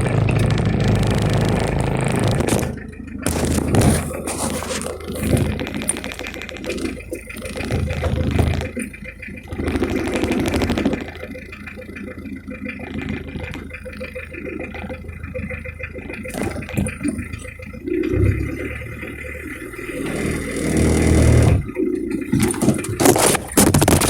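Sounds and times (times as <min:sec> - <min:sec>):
diesel engine clattering: 0:00.0 - 0:24.0.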